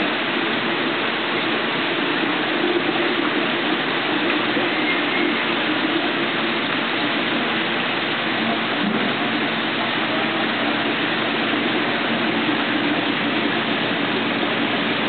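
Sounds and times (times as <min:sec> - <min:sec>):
aquarium water rushing: 0:00.0 - 0:15.0
low wavering pump hum: 0:00.0 - 0:15.0.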